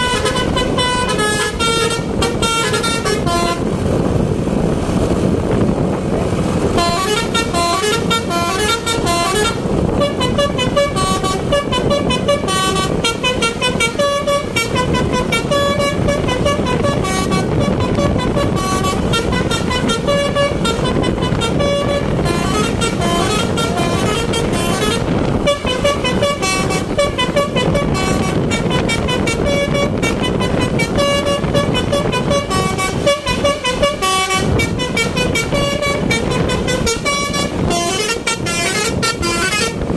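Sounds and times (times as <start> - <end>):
multi-tone bus air horn tune: 0.0 - 4.3, 6.6 - 39.9
bus engine: 0.0 - 39.9
road noise: 0.0 - 39.9.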